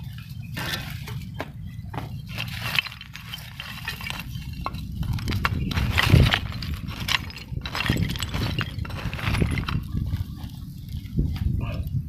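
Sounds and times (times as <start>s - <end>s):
rubble clinking and scraping: 0.0s - 11.9s
steady low rumble: 0.0s - 12.0s.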